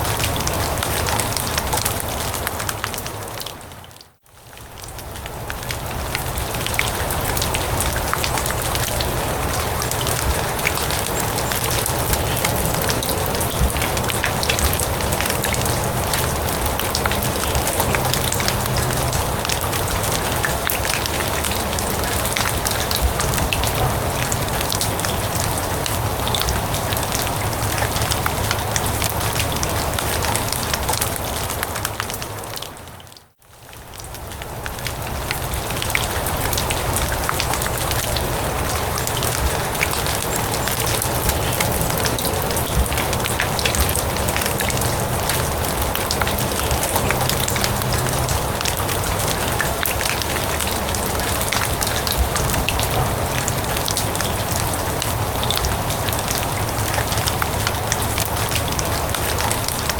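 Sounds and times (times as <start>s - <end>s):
rain falling on grass: 0.0s - 59.9s.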